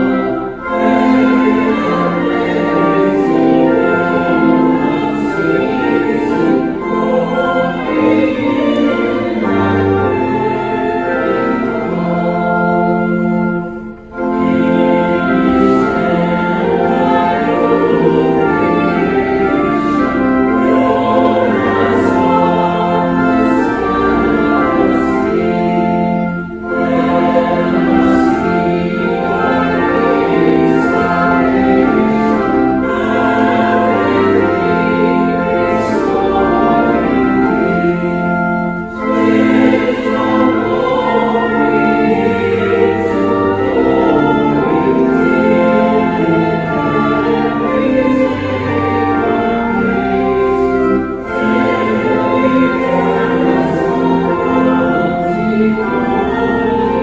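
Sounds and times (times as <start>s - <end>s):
congregation singing a hymn: 0.0s - 57.0s
organ: 0.0s - 57.0s.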